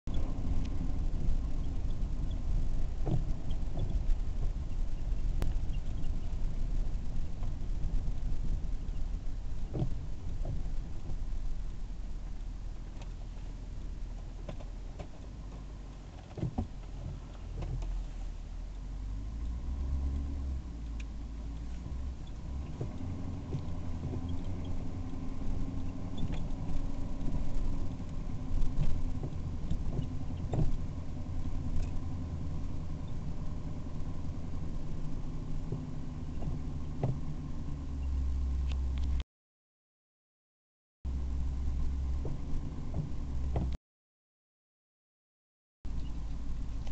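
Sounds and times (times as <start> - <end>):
car engine and road rumble: 0.0 - 39.2, 41.1 - 43.8, 45.9 - 46.9.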